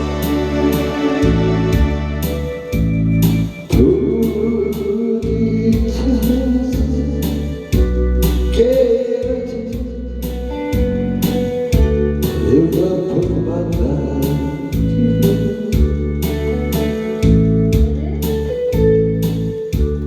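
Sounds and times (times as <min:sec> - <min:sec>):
band music: 0:00.0 - 0:20.0.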